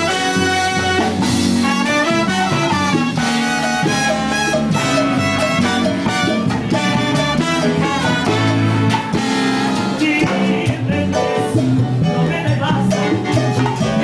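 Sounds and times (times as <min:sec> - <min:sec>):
salsa band playing instrumental: 0:00.0 - 0:14.0.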